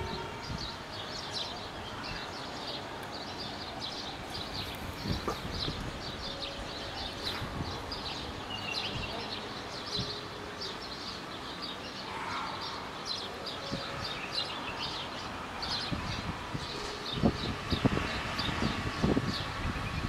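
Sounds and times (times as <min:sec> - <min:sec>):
small birds chirping: 0:00.0 - 0:20.0
steady background noise: 0:00.0 - 0:20.0.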